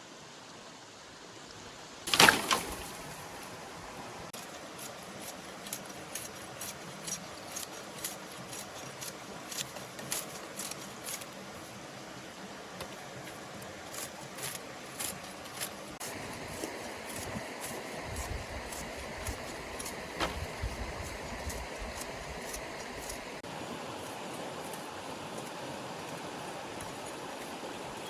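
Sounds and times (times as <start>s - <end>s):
stream running: 0.0s - 28.0s.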